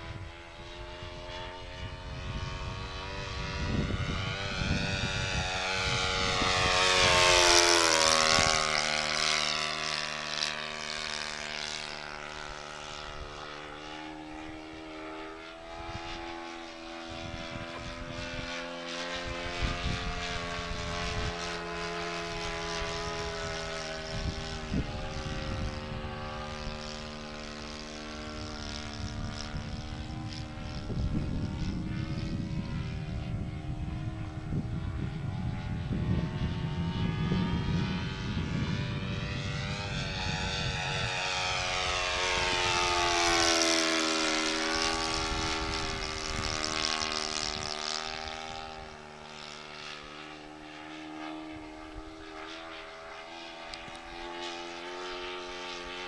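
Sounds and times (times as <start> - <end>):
model airplane engine droning: 0.0 - 56.0.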